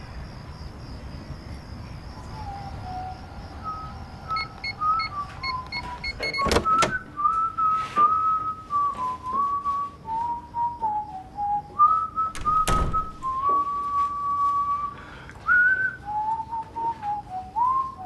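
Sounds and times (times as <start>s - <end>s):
person whistling a slow tune: 2.4s - 18.0s.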